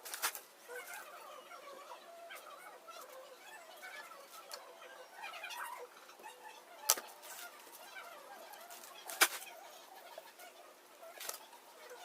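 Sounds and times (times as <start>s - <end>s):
faint bird chirping: 0.4s - 12.0s.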